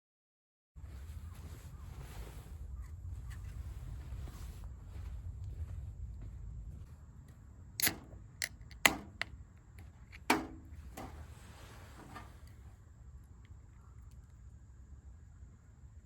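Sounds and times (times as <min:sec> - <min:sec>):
low steady rumble: 0:00.8 - 0:16.0.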